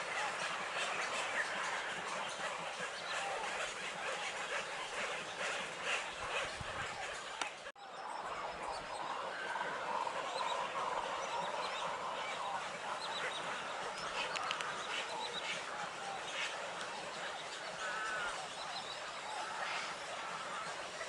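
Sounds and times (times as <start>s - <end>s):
nestling birds chattering and squawking: 0.0s - 21.0s.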